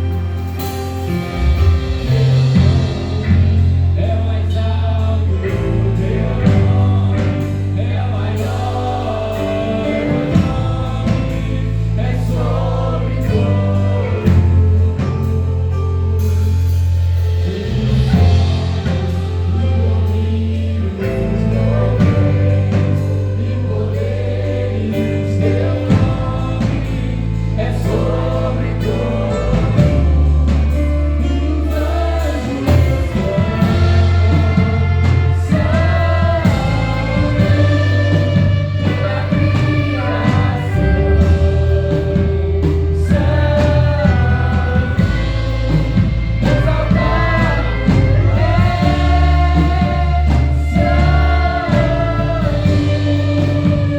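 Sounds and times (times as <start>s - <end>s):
choir singing: 0.0s - 53.9s
orchestra playing a hymn: 0.0s - 53.9s.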